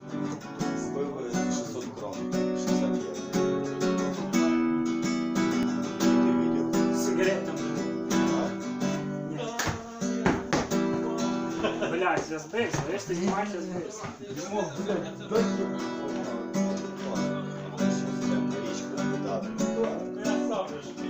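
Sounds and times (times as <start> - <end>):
acoustic guitar strumming chords: 0.0 - 13.6, 14.4 - 21.0.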